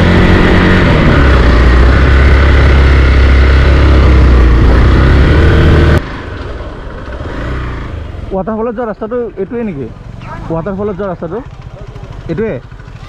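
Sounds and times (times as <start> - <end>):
motorcycle engine running: 0.0 - 6.0, 6.6 - 13.0.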